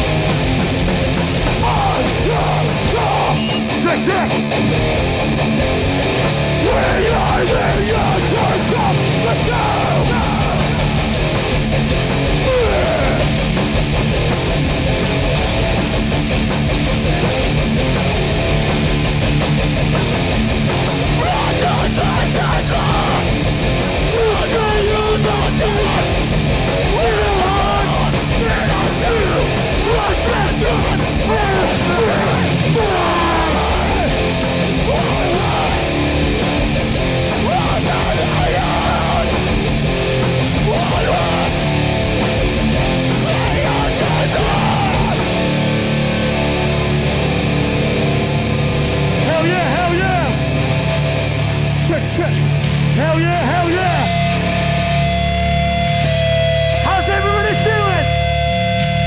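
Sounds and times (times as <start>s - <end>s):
bass guitar: 0.0s - 59.0s
distorted electric guitars: 0.0s - 59.0s
drums: 0.0s - 59.0s.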